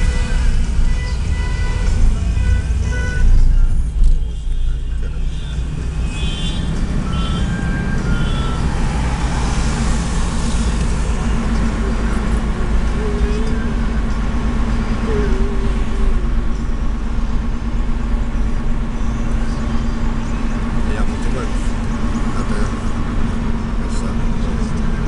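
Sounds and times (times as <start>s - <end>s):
engine and tyre rumble: 0.0s - 25.0s
engine hum: 0.0s - 25.0s.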